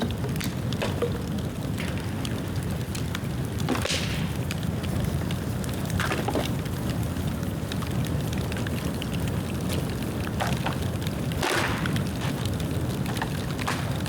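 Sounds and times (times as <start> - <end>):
fine crackling of fire: 0.0 - 14.0
sharp pops of burning bamboo: 0.0 - 14.0.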